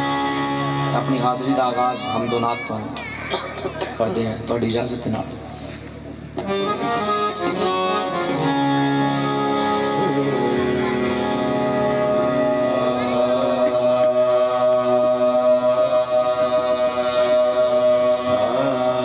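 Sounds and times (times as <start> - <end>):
harmoniums playing slow melody: 0.0 - 2.2, 5.4 - 19.0.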